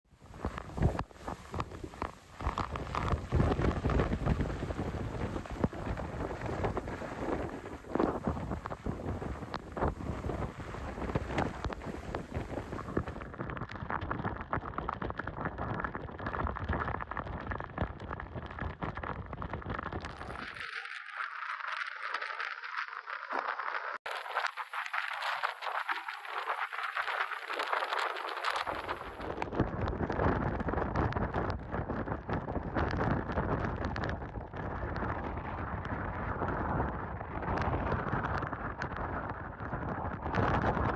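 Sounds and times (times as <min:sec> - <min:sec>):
strong wind gusts rumbling: 0:00.1 - 0:20.5, 0:24.6 - 0:40.9
heavy rain pelting down: 0:00.3 - 0:15.4, 0:16.0 - 0:40.9.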